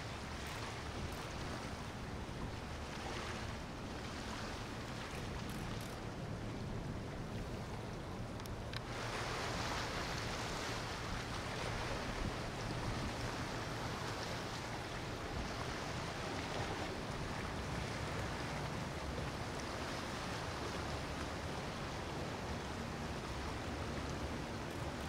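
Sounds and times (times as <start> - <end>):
boat engine drone: 0.0 - 25.0
rush of water and wind: 0.0 - 25.0.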